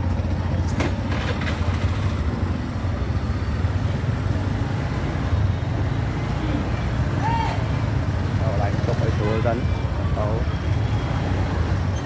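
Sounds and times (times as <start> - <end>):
low rumble of street traffic: 0.0 - 12.0
vehicle engines running close by: 0.0 - 12.0.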